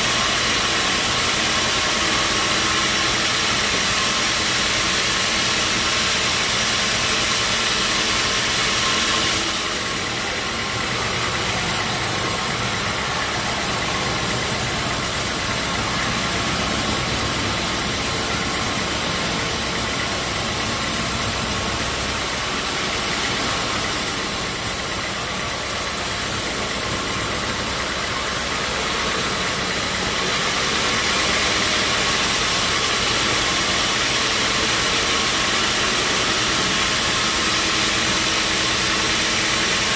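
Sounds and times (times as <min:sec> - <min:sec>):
bandsaw machinery hissing: 0:00.0 - 0:39.9.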